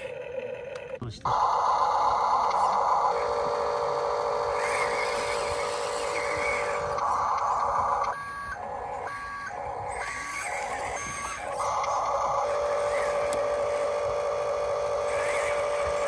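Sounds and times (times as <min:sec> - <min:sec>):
toy mechanical hum: 0:00.0 - 0:16.0.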